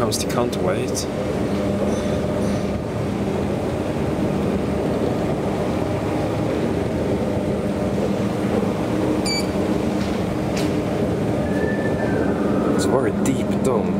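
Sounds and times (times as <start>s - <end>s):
elevator running rumble: 0.0s - 13.9s.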